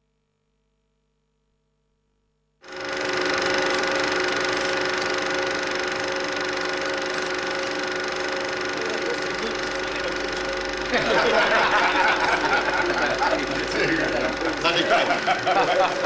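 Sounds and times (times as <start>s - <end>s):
film projector whirring: 2.6s - 16.0s.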